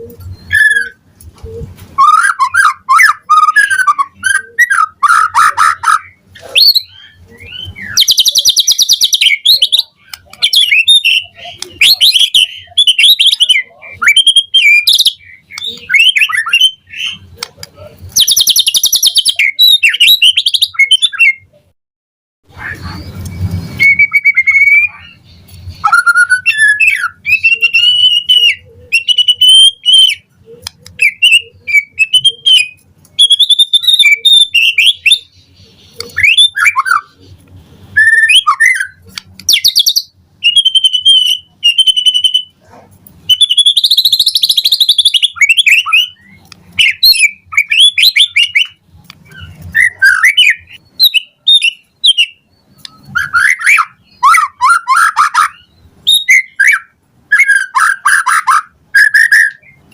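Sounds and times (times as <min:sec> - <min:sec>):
bird singing varied song: 0:00.0 - 0:01.3, 0:01.9 - 0:21.7, 0:22.5 - 0:59.9.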